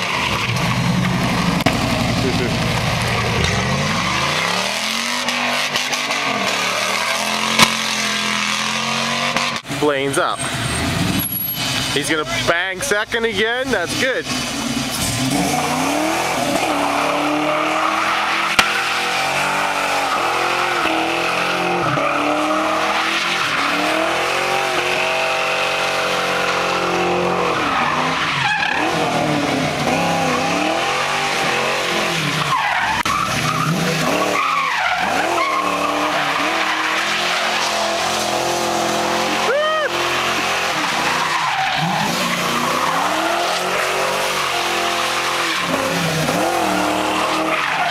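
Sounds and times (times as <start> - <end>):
car engine revving hard: 0.0 - 12.2, 13.7 - 47.9
tyres squealing on asphalt: 0.0 - 47.9.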